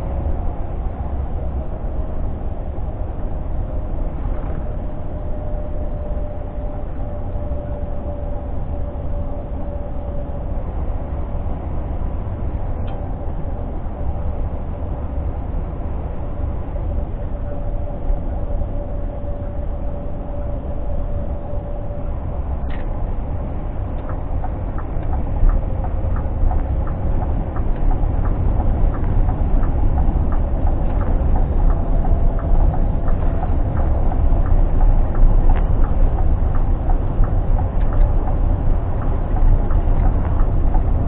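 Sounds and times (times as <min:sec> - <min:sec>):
road noise: 0:00.0 - 0:41.0
steady whine: 0:00.0 - 0:41.0
truck diesel engine rumble: 0:00.0 - 0:41.0.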